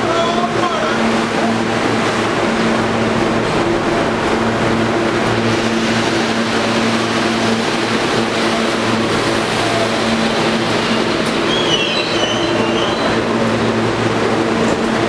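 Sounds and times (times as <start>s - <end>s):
train motor hum: 0.0s - 15.0s
train wheels rumbling on rail: 0.0s - 15.0s.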